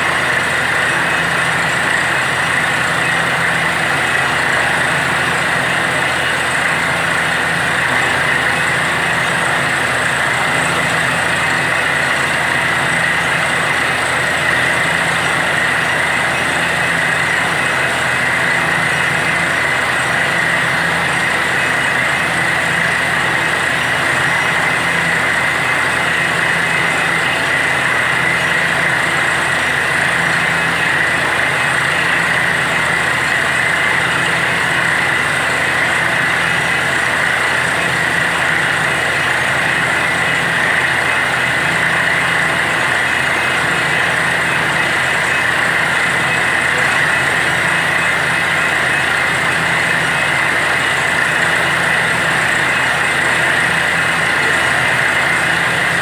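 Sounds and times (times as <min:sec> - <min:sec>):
drilling rig engine and compressor: 0:00.0 - 0:56.0.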